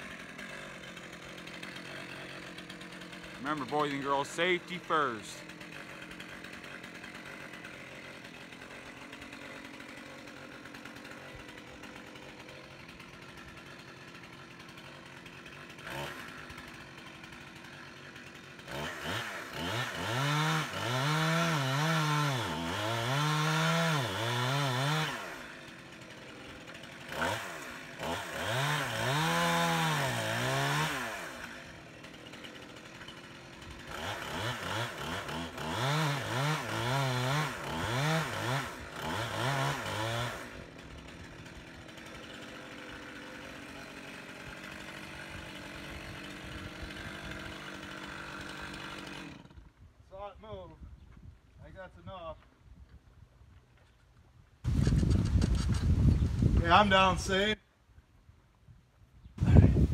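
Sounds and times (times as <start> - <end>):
chainsaw idling and cutting wood: 0.0 - 50.6, 51.6 - 52.5, 53.5 - 57.6, 59.4 - 59.9.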